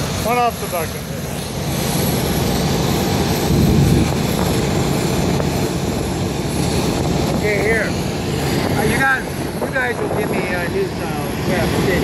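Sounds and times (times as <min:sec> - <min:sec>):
aircraft engine rumble: 0:00.0 - 0:12.0
wind buffeting microphone: 0:00.0 - 0:12.0.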